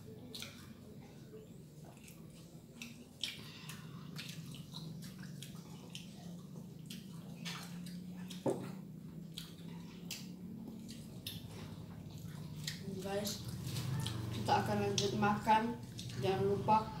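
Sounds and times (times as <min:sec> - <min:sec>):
steady low hum: 0:00.0 - 0:17.0
wet chewing and mouth clicks: 0:00.1 - 0:16.3.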